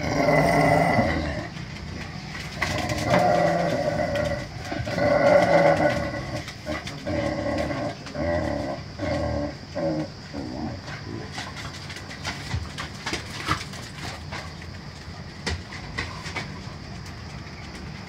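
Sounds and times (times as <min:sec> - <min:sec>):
dogs growling: 0:00.0 - 0:14.6.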